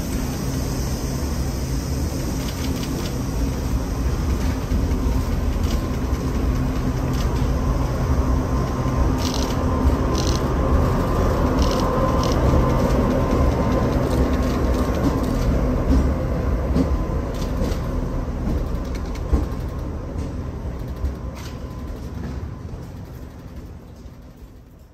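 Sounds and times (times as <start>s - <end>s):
diesel train passing: 0.0s - 24.9s.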